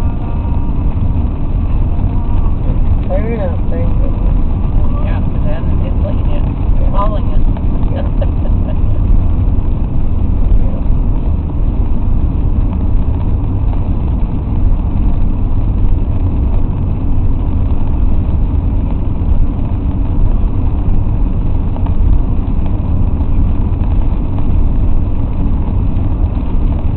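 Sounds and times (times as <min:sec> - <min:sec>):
car cabin road noise: 0:00.0 - 0:26.9.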